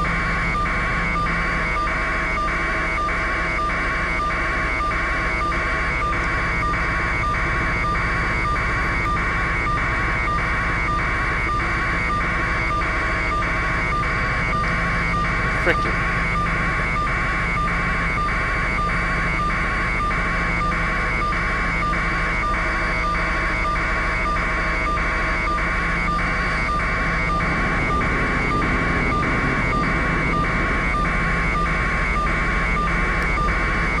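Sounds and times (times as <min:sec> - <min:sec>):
helicopter drone: 0:00.0 - 0:34.0.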